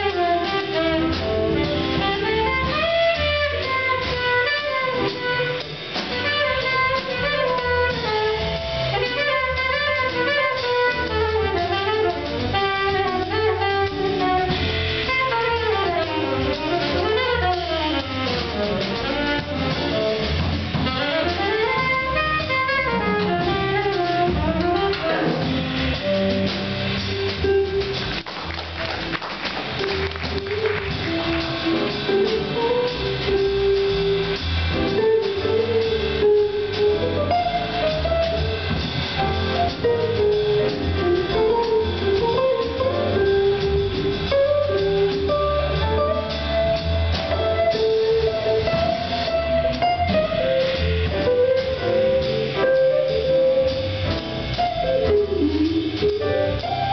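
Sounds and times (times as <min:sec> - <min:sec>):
alto saxophone solo: 0:00.0 - 0:56.9
drum kit: 0:00.0 - 0:56.9
piano: 0:00.0 - 0:56.9
upright bass: 0:00.0 - 0:56.9.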